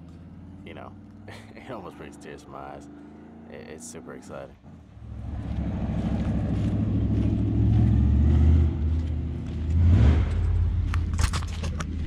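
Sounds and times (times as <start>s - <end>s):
vehicle engine low hum: 0.0s - 12.0s.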